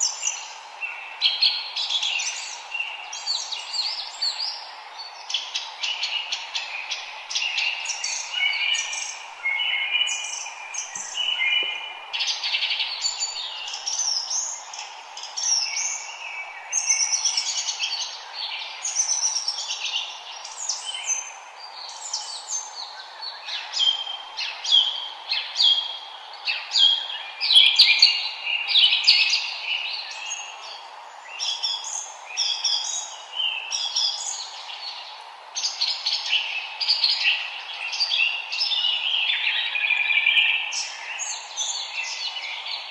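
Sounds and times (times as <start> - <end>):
faint steady hiss: 0.0 - 42.9
songbirds chirping: 0.0 - 42.9.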